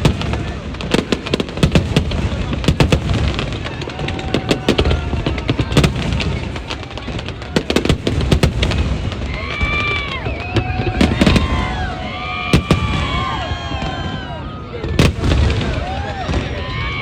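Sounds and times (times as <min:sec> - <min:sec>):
fireworks cracking and booming: 0:00.0 - 0:17.0.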